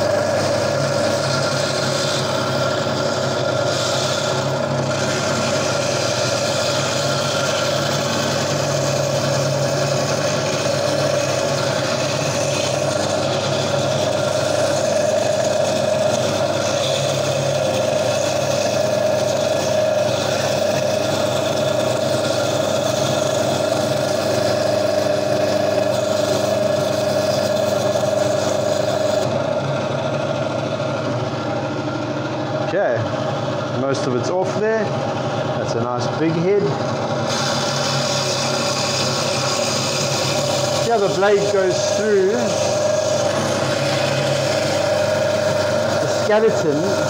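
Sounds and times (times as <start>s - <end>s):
bandsaw cutting coral: 0.0s - 33.1s, 33.8s - 47.0s.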